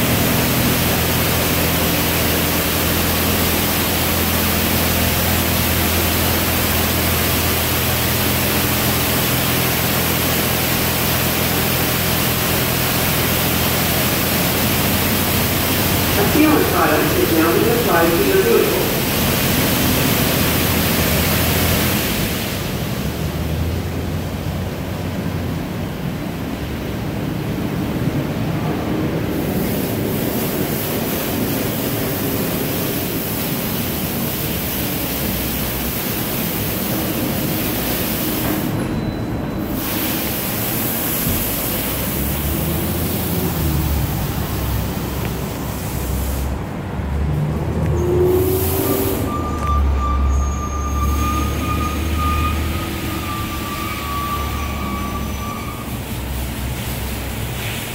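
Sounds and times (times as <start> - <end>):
water jets spraying: 0.0 - 25.0, 29.3 - 38.8, 39.6 - 49.5, 51.0 - 57.9.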